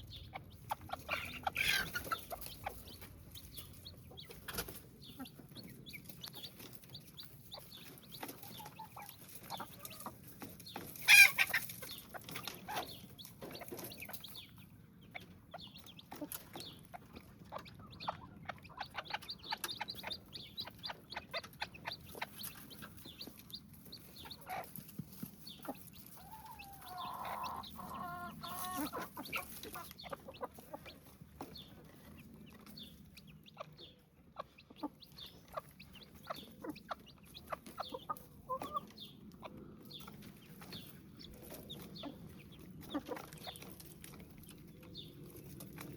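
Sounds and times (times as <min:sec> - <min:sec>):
chicks cheeping and clucking: 0:00.0 - 0:45.9.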